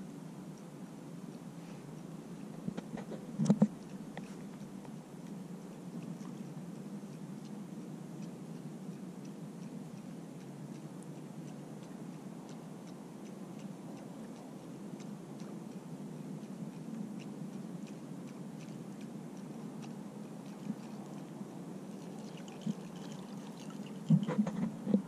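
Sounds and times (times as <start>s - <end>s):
light ticks and clicks: 0.0s - 25.0s.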